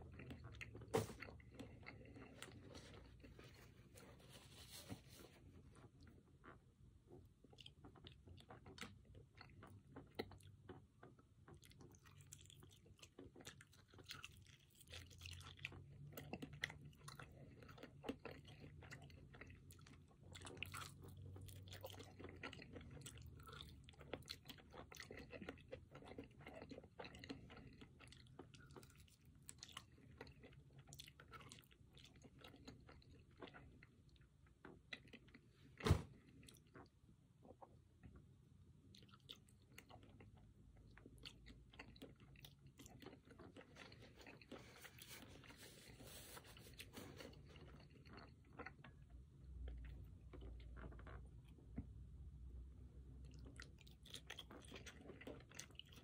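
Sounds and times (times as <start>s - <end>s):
chewing and biting chicken: 5.8s - 35.5s, 38.8s - 51.3s, 53.2s - 56.0s.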